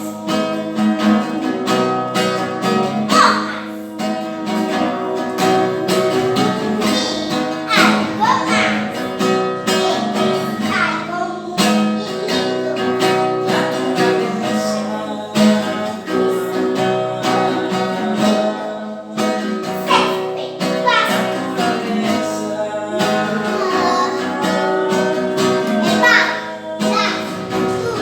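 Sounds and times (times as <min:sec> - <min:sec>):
acoustic guitar strumming and plucking: 0:00.0 - 0:28.0.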